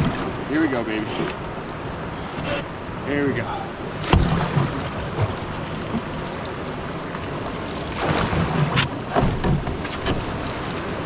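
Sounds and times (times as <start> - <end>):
paddle strokes splashing: 0.0 - 11.0
rushing whitewater: 0.0 - 11.0.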